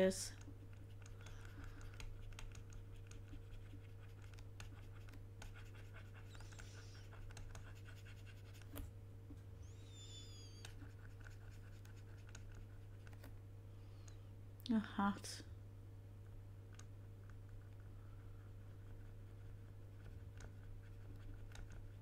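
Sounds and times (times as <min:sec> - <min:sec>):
faint scratching and ticks: 0:00.0 - 0:08.9, 0:09.9 - 0:14.2, 0:16.2 - 0:22.0
low electrical hum: 0:00.0 - 0:22.0.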